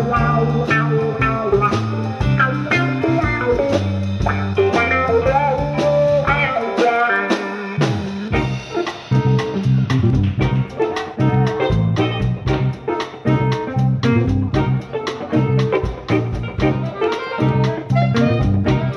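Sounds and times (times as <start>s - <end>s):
funk band playing: 0.0s - 18.9s.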